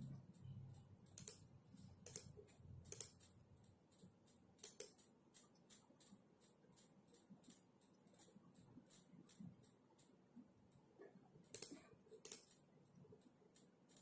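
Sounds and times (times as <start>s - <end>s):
typing on computer keyboard: 0.0s - 14.0s.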